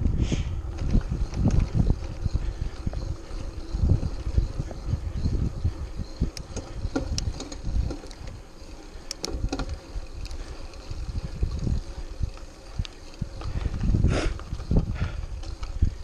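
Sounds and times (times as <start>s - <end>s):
bike rattles and clicks: 0.0s - 16.0s
bike tyres rumbling on dirt: 0.0s - 16.0s
wind on microphone: 0.0s - 16.0s.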